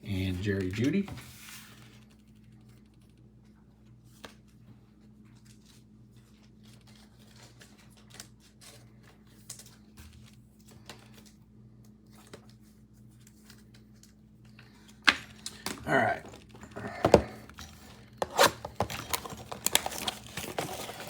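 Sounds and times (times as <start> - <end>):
trading cards rustling: 0.1 - 3.1, 4.1 - 21.0.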